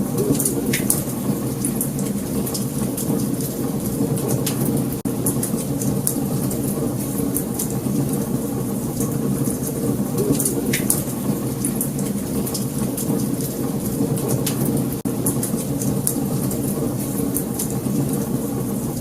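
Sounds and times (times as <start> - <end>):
wood fire crackling and popping: 0.1 - 19.0.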